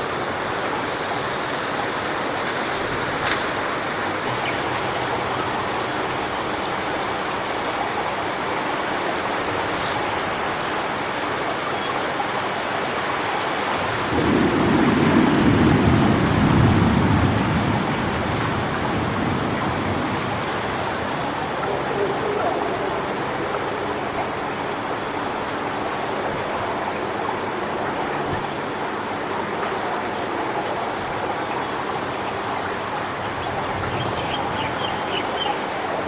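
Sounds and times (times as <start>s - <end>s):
strong wind through palm trees: 0.0s - 36.0s.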